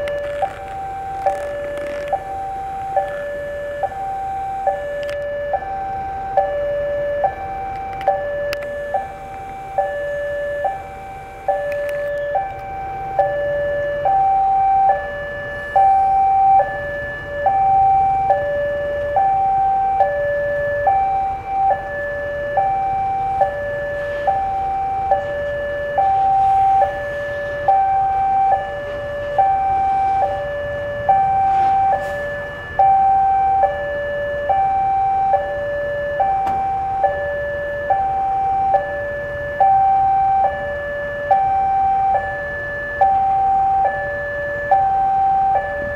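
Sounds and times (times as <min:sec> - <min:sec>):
level crossing two-tone alarm: 0:00.0 - 0:45.9.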